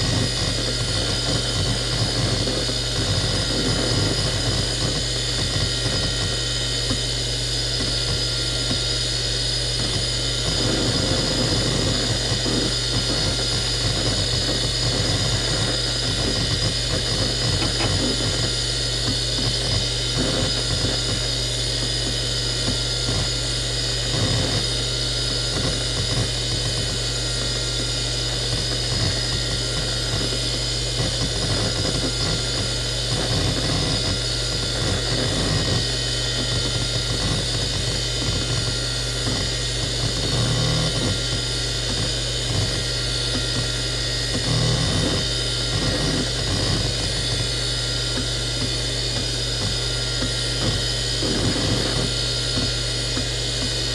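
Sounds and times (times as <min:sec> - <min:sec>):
hard drive seek chatter: 0:00.0 - 0:53.9
hard drive whine and hum: 0:00.0 - 0:53.9.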